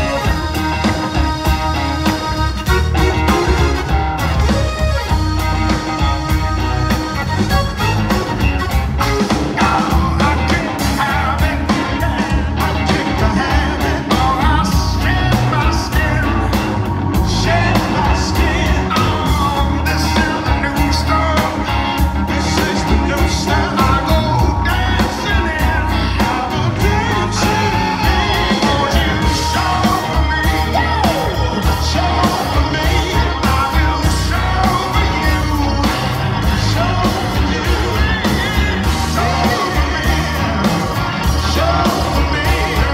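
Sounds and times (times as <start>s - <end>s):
drums keeping a steady beat: 0.0s - 42.9s
electric bass: 0.0s - 42.9s
male lead singer: 0.0s - 42.9s.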